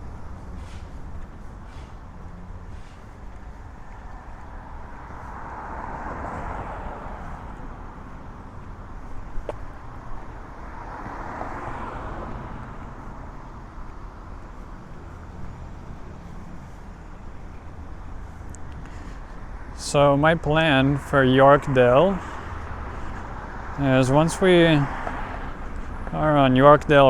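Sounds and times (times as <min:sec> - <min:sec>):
cars passing: 0:00.0 - 0:27.0
traffic rumble: 0:00.0 - 0:27.0.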